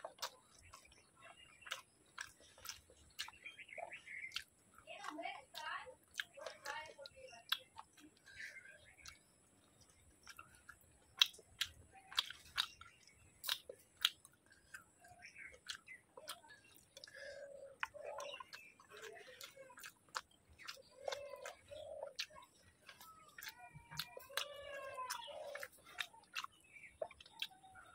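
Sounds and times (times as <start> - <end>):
mouth clicks and wet smacks: 0.0 - 27.9
person chewing food: 0.0 - 27.9.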